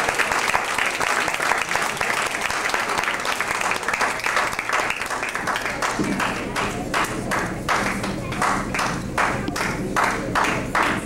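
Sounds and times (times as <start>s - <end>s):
audience applauding: 0.0s - 11.0s
rhythmic clapping: 0.0s - 11.0s.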